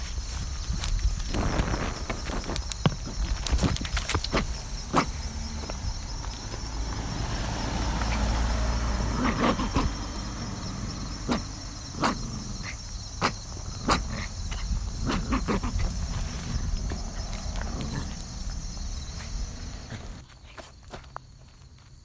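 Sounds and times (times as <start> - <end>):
low rumble: 0.0 - 20.2.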